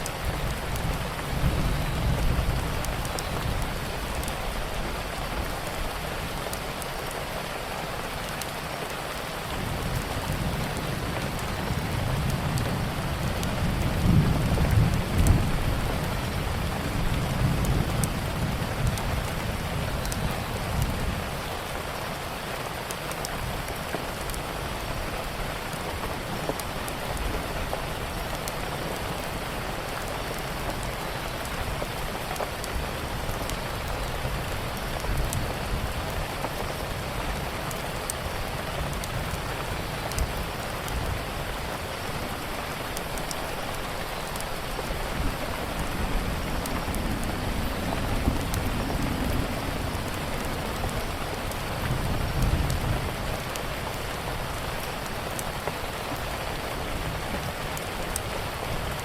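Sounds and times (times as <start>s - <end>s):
rain falling: 0.0s - 59.0s
wood fire crackling: 0.0s - 59.0s.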